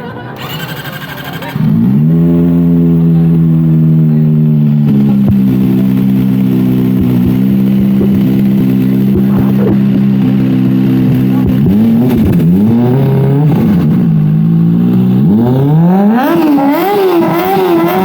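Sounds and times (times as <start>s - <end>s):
motorcycle engine at high revs: 0.4s - 18.0s.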